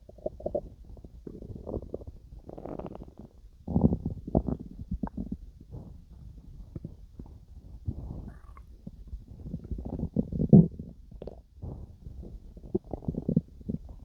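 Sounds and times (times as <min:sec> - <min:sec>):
stomach growling and gurgling: 0:00.0 - 0:14.0.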